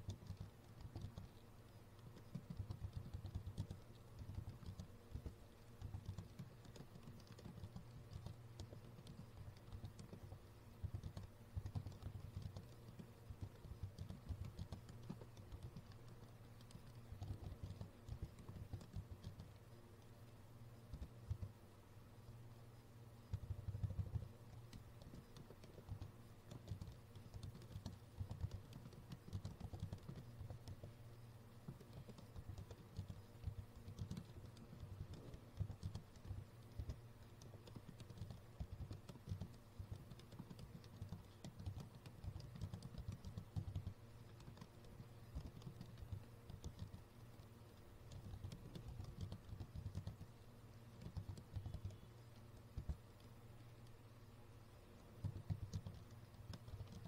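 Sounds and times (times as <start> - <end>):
typing on computer keyboard: 0.0 - 21.6, 23.1 - 54.1, 55.0 - 57.0.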